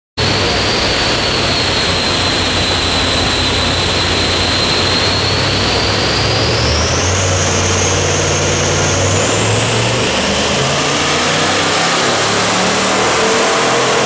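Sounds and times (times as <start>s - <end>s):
turbocharged engine on dyno: 0.2s - 14.0s.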